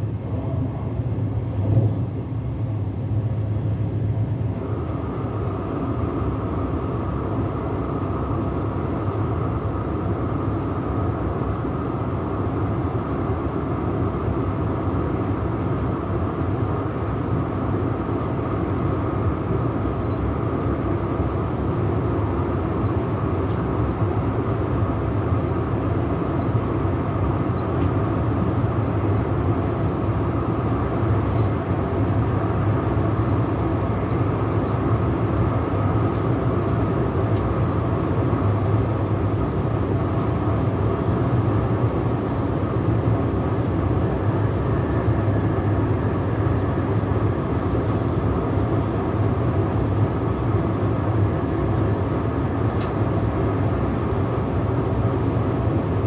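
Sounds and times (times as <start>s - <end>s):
train running on track: 0.0s - 56.0s.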